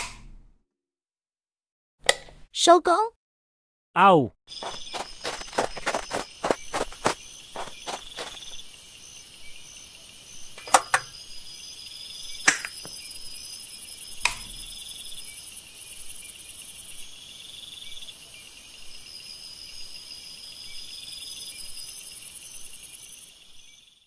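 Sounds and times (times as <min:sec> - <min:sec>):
crickets chirping: 0:04.5 - 0:24.0.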